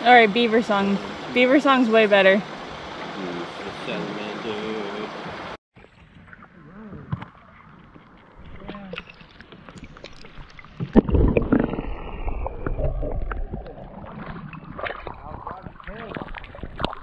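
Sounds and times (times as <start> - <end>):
rush of churning water: 0.0 - 17.0
underwater gurgling and rumbling: 2.4 - 17.0.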